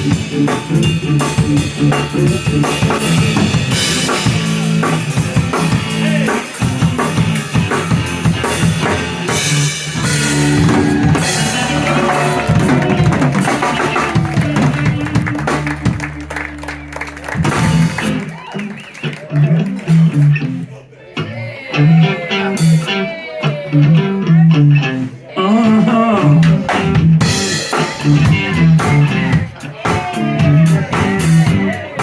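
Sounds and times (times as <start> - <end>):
drum kit: 0.0 - 32.0
live blues band playing: 0.0 - 32.0.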